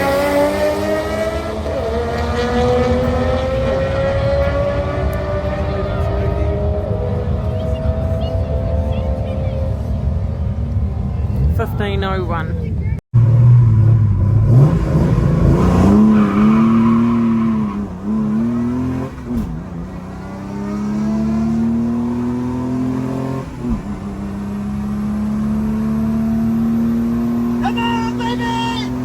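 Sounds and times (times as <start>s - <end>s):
car engine accelerating hard: 0.0s - 11.8s, 13.2s - 29.0s.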